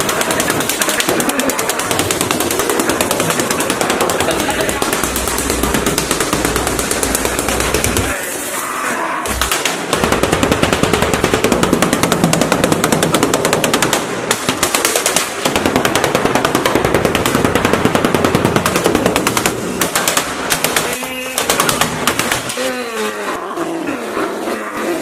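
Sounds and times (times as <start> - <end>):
power tool hammering rapidly: 0.0 - 8.1, 9.3 - 22.6.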